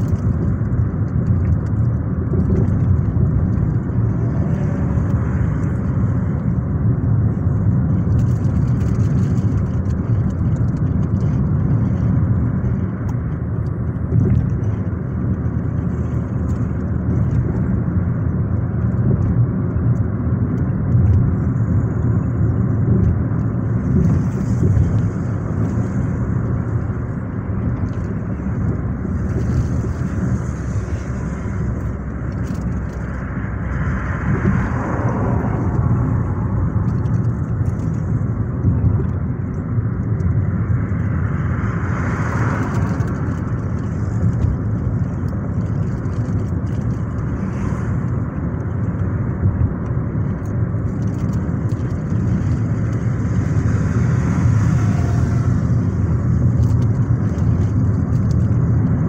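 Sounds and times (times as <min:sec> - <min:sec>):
car driving at speed: 0:00.0 - 0:59.0.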